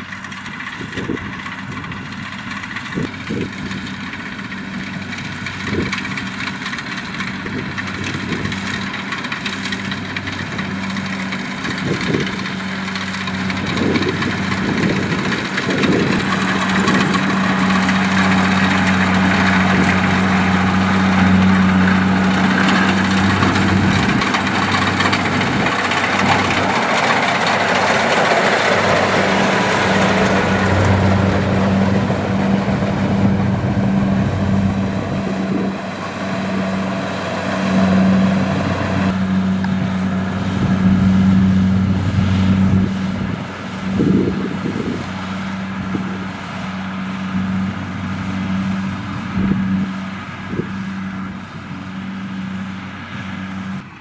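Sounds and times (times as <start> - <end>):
clattering threshing machinery: 0.0 - 54.0
diesel engine humming: 0.0 - 54.0.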